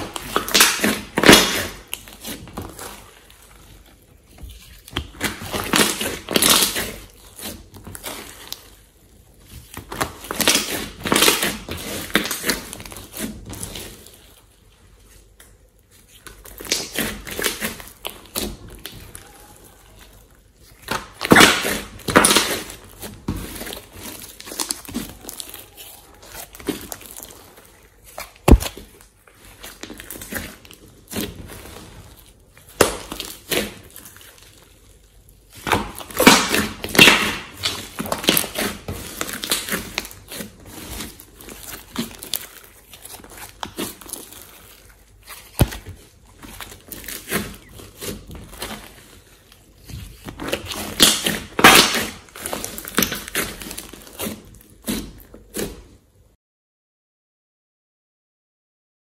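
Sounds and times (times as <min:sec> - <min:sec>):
slime squishing by hand: 0:00.0 - 0:56.4.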